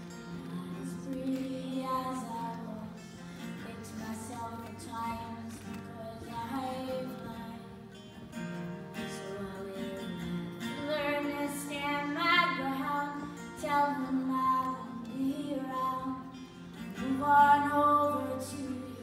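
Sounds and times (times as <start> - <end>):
acoustic guitars: 0.0 - 19.0
woman singing: 0.1 - 19.0.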